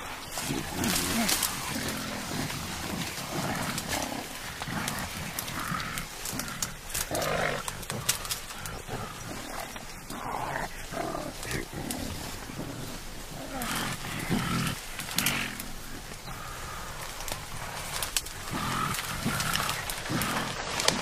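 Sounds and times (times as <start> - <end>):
bamboo stems cracking and rustling: 0.0 - 21.0.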